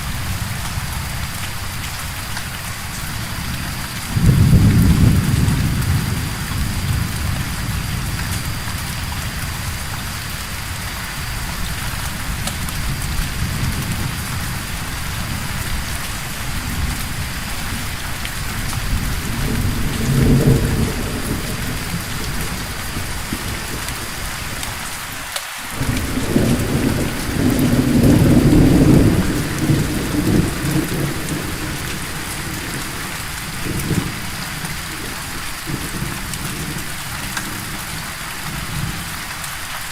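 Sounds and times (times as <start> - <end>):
heavy rain: 0.0 - 39.9
rolling thunder: 3.1 - 25.0, 25.7 - 39.1.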